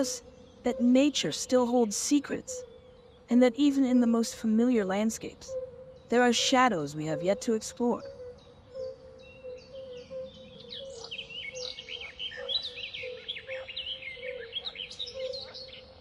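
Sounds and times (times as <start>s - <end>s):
birds chirping and twittering: 0.0s - 16.0s.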